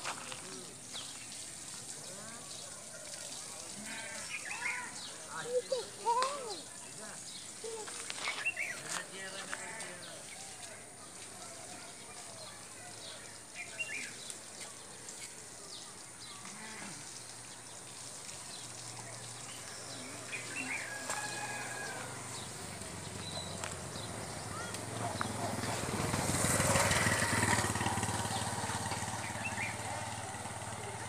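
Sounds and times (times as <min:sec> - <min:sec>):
distant voices: 0:00.0 - 0:31.0.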